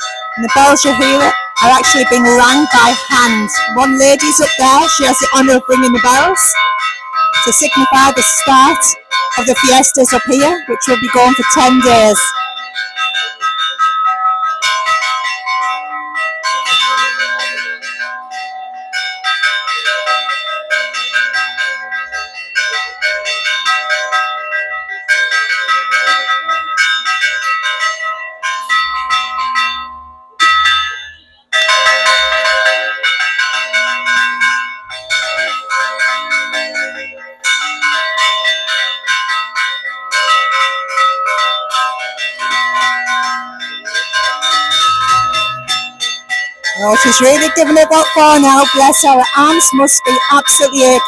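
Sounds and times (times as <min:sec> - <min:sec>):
church bells pealing: 0:00.0 - 0:51.0.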